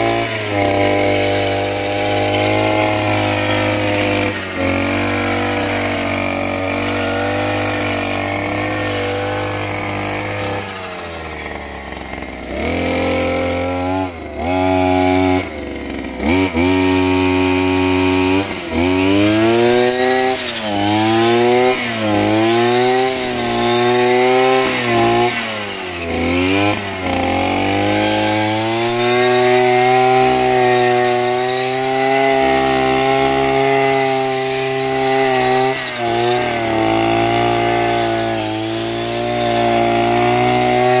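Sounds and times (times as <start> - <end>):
brush cutter engine at high revs: 0.0 - 41.0.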